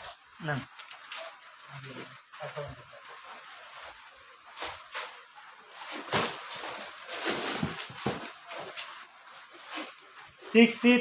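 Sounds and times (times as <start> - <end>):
cardboard cartons rustling and scraping: 0.0 - 10.4.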